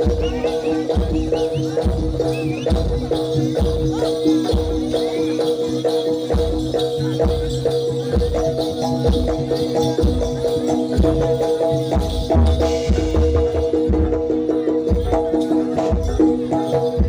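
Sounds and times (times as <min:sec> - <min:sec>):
drum strokes: 0:00.0 - 0:17.0
rattling percussion: 0:00.0 - 0:17.0.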